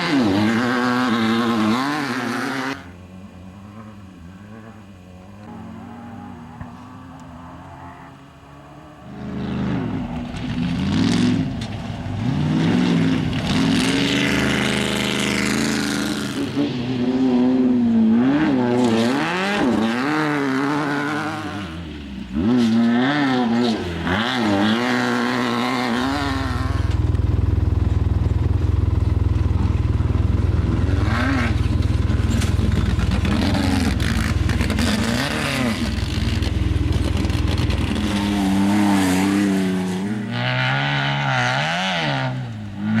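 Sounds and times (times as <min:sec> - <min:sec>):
off-road race engines revving: 0:00.0 - 0:43.0.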